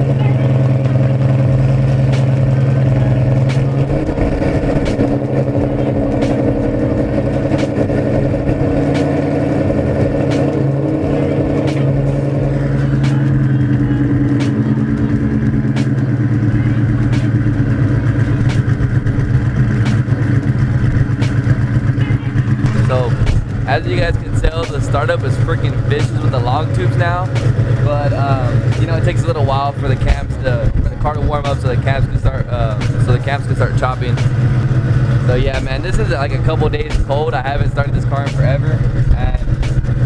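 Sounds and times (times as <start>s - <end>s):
car engine idling loudly: 0.0s - 40.0s.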